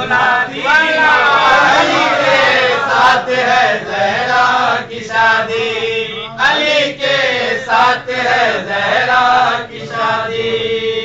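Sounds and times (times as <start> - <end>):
man chanting devotional poem: 0.0 - 11.0.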